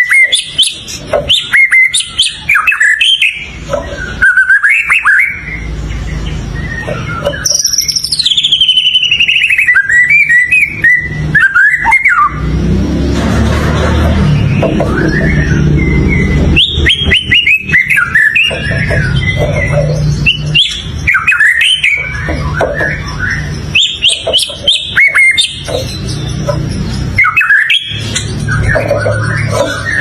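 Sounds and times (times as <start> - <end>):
bird singing whistled phrases: 0.0 - 5.8, 6.6 - 12.5, 14.8 - 30.0.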